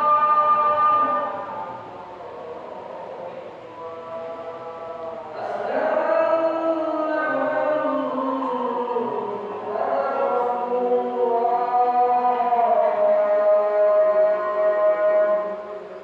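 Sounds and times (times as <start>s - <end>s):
person chanting long notes: 0.0s - 16.0s.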